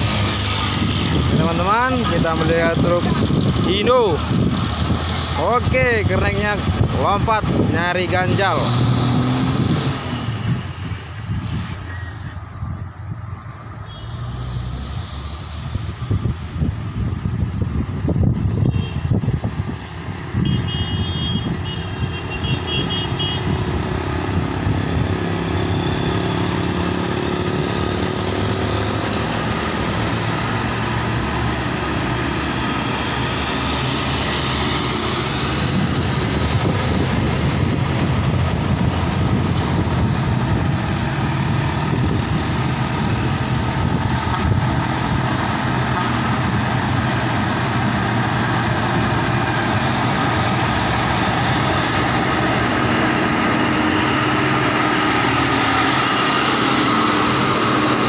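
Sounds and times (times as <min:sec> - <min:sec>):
cars and motorcycles passing: 0:00.0 - 0:58.0
diesel trucks running: 0:00.0 - 0:58.0.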